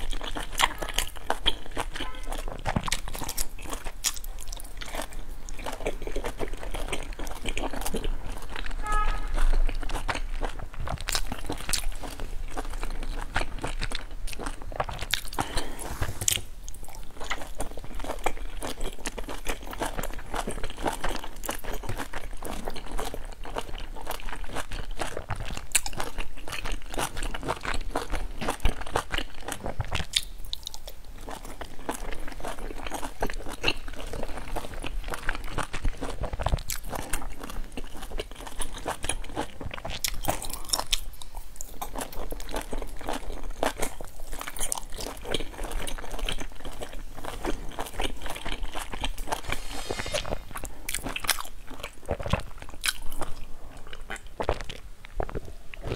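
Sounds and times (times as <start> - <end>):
biting and chewing: 0.0 - 55.9.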